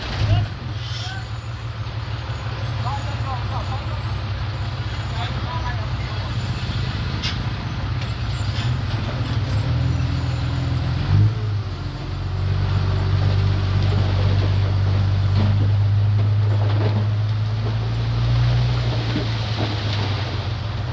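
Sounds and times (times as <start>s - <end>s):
bulldozer diesel engine under load: 0.0s - 20.9s.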